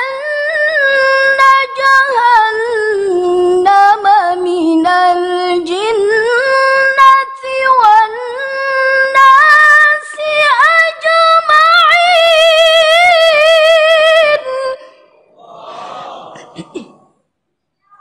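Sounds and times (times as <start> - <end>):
woman reciting melodically: 0.0 - 15.1.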